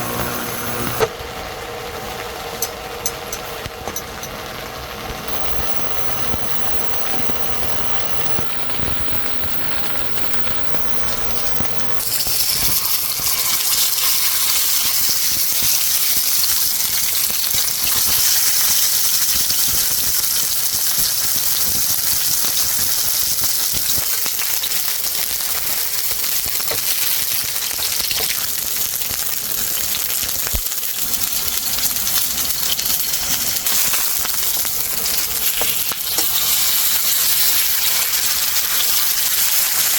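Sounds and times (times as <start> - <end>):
steak sizzling in a pan: 0.0 - 1.0, 5.3 - 39.9.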